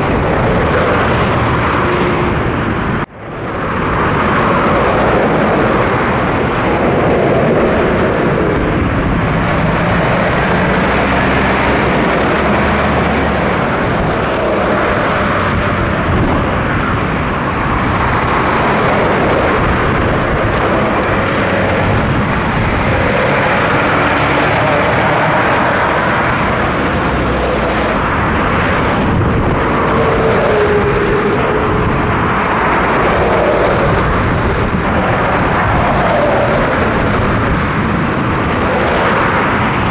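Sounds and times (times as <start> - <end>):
lorries passing on motorway: 0.0 - 39.9
motorway traffic: 0.0 - 39.9.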